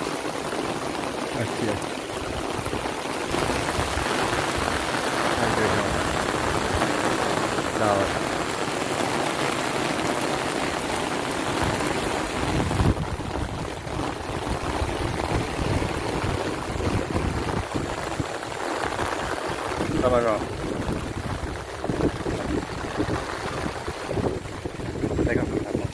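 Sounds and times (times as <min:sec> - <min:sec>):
heavy rain falling: 0:00.0 - 0:25.9.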